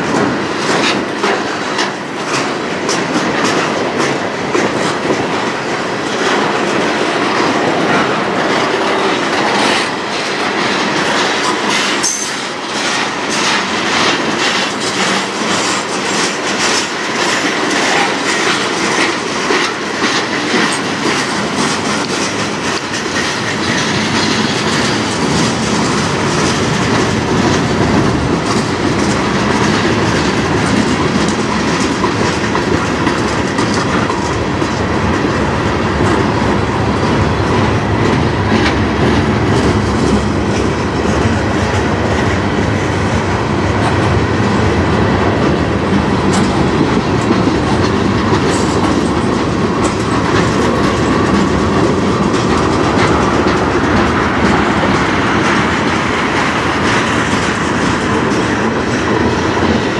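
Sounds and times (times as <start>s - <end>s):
train wheels rumbling on rails: 0.0s - 59.9s
wheels clicking over rail joints: 0.0s - 59.9s.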